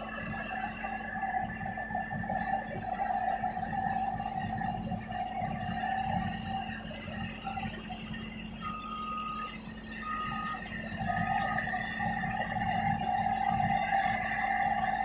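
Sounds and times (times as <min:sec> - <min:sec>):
bulldozer engine rumbling: 0:00.0 - 0:15.0
steady whine: 0:00.0 - 0:15.0.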